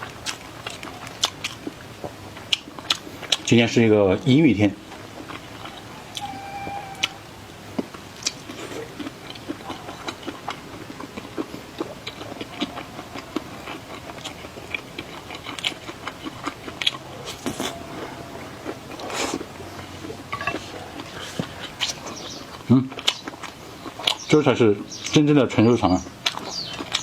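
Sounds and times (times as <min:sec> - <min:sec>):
person chewing food: 0:00.0 - 0:03.5, 0:04.8 - 0:25.2, 0:26.0 - 0:27.0.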